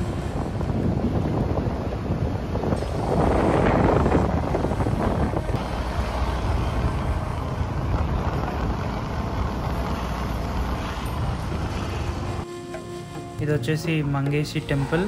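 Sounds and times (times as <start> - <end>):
wind rushing over microphone: 0.0 - 12.4
engine and road rumble: 0.0 - 15.0.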